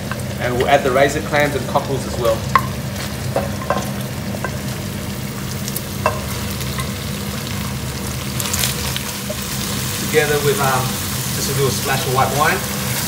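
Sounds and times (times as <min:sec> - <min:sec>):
seafood sizzling in hot oil: 0:00.0 - 0:13.0.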